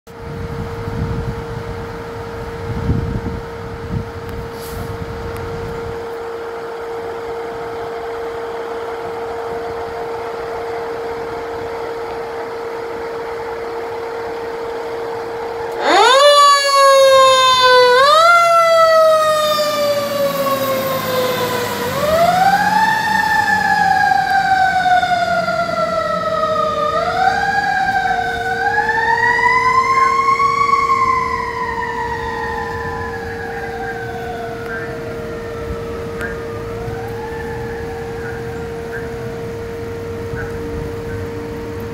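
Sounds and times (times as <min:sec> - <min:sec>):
fire engine siren wailing: 0:00.1 - 0:41.9.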